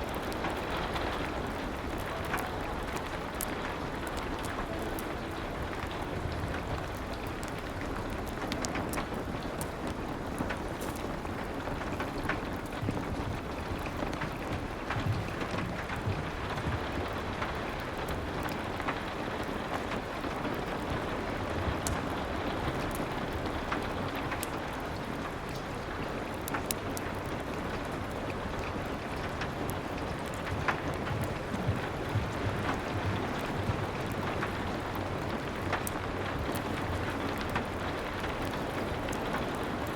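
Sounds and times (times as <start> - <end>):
rain against a window: 0.0 - 39.9
wood fire crackling: 0.0 - 39.9.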